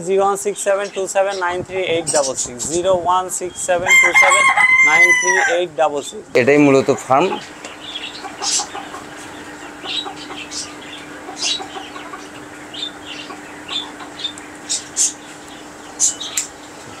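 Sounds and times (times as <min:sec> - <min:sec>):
steady low hum: 0:00.0 - 0:17.0
poultry clucking and chirping: 0:00.3 - 0:17.0.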